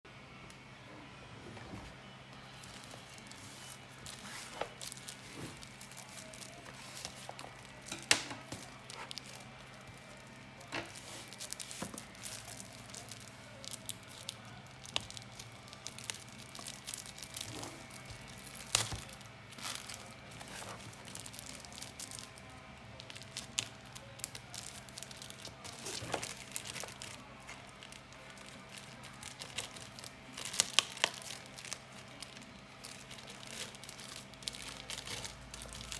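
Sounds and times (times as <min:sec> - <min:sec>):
wrapping crinkling and tearing: 0:02.4 - 0:35.9.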